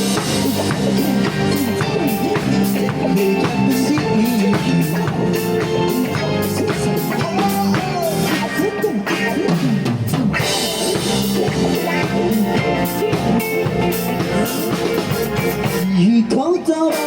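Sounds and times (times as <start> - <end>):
drum kit beat: 0.0 - 17.0
live band playing: 0.0 - 17.0.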